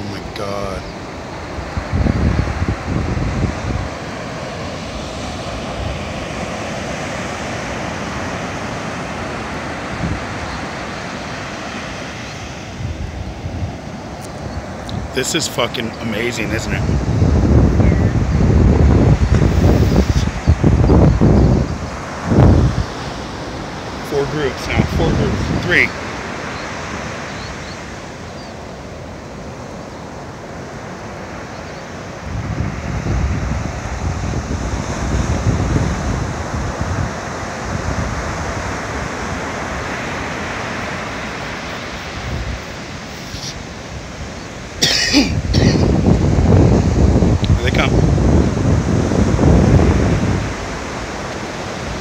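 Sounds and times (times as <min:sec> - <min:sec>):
ocean surf breaking on beach: 0:00.0 - 0:52.0
wind on microphone: 0:00.0 - 0:52.0.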